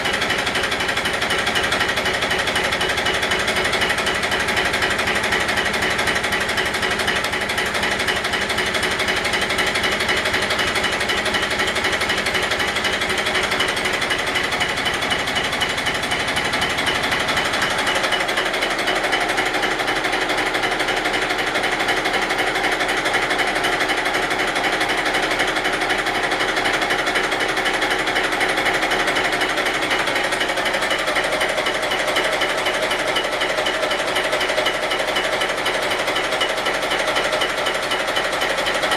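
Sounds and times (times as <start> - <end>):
boat engine rattling: 0.0 - 38.9.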